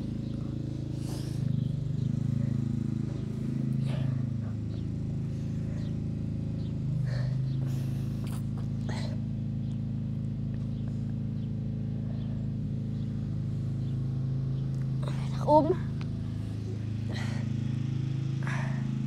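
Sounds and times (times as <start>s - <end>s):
low mechanical motor hum: 0.0s - 19.0s.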